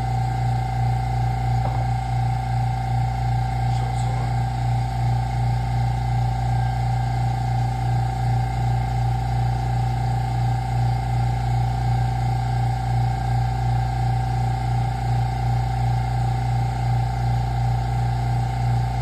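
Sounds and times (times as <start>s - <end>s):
vacuum pump humming with whine: 0.0s - 19.0s.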